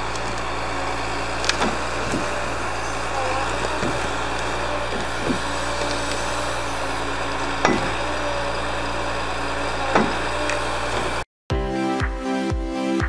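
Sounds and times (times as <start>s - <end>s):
diesel engine running: 0.0s - 11.2s.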